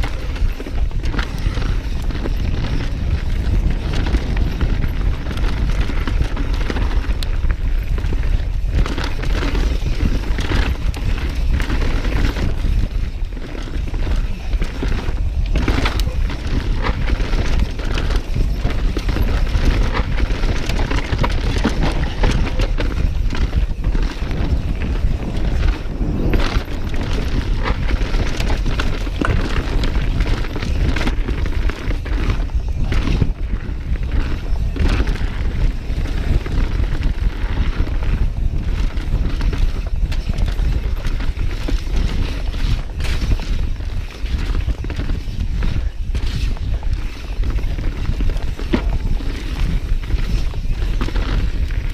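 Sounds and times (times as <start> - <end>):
bike clattering over rocks: 0.0 - 51.9
tyre noise on dirt: 0.0 - 51.9
wind buffeting microphone: 0.0 - 51.9.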